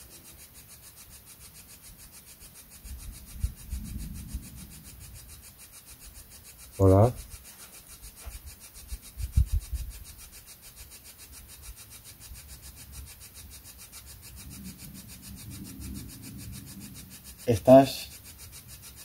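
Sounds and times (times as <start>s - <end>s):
chopped radio static hiss: 0.0s - 19.0s.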